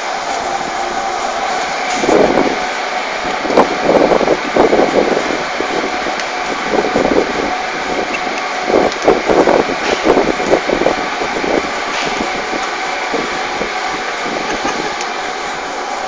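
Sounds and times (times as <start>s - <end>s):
mechanical rushing noise: 0.0s - 16.0s.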